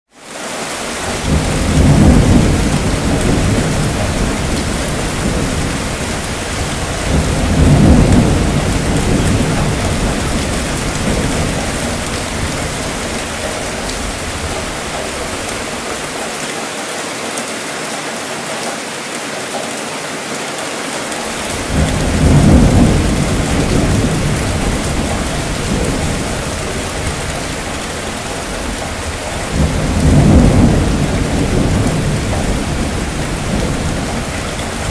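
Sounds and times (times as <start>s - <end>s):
steady rainfall: 0.1s - 34.9s
rumbling thunder: 0.9s - 16.2s, 21.3s - 34.9s.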